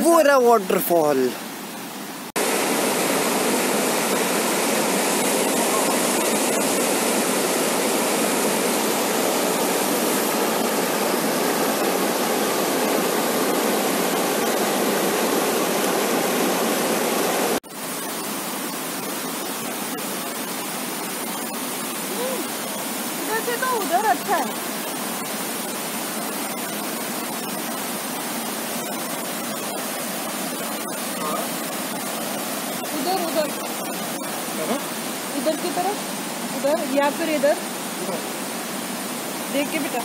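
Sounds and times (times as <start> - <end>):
floodwater rushing over rocks: 0.0 - 40.0.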